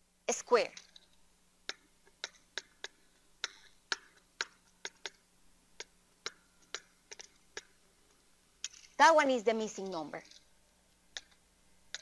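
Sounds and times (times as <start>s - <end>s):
stylus tapping and scratching tablet: 0.7s - 12.0s.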